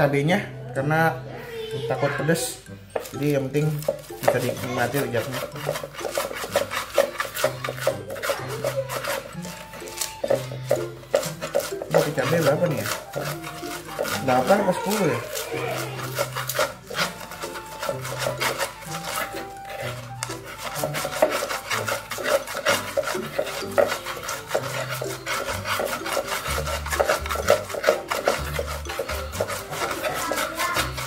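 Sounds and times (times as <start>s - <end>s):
stone pestle grinding in mortar: 2.9s - 31.0s.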